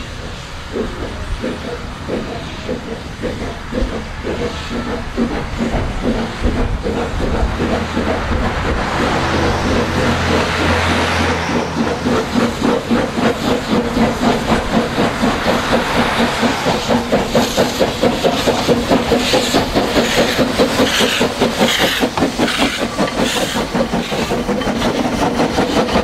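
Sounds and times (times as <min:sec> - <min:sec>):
hissing steam: 0:00.0 - 0:26.0
steam locomotive exhaust chuffs: 0:00.0 - 0:26.0.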